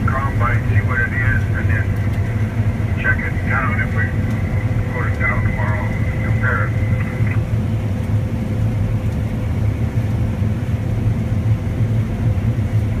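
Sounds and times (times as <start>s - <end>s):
combine harvester engine rumble: 0.0s - 13.0s
faint steady whine: 0.0s - 13.0s.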